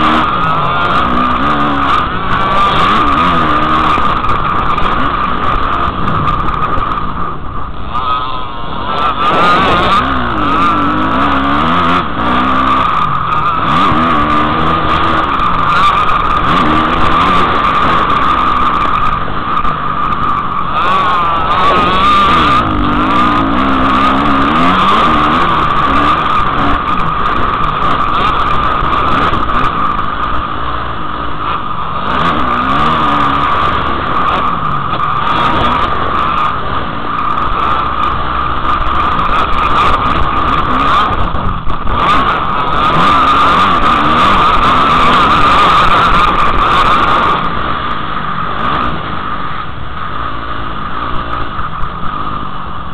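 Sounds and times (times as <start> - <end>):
constant rushing noise: 0.0 - 52.9
dirt bike engine revving: 0.0 - 52.9.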